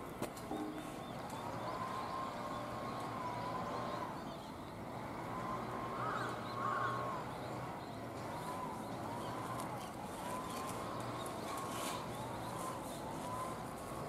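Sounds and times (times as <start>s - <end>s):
bird calls: 0.4s - 14.0s
distant siren wailing: 0.5s - 14.0s.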